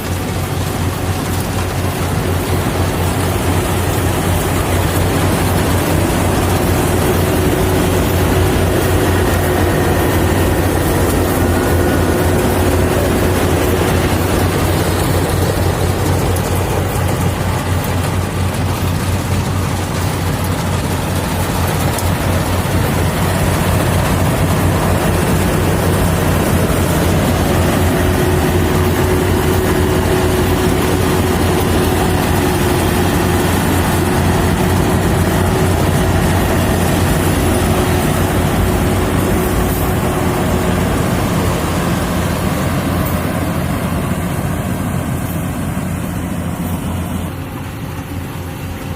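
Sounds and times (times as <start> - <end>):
combine harvester droning: 0.0 - 48.9
steady machine whine: 0.0 - 48.9.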